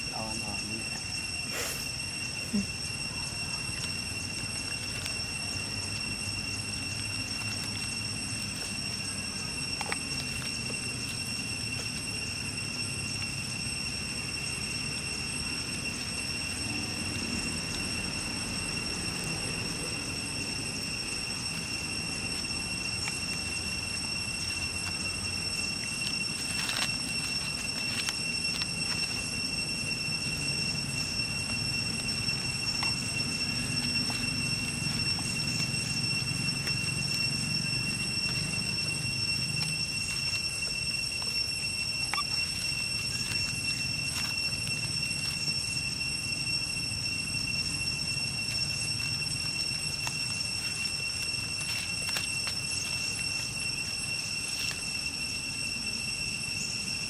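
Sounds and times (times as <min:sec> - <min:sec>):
high-pitched whine: 0:00.0 - 0:57.0.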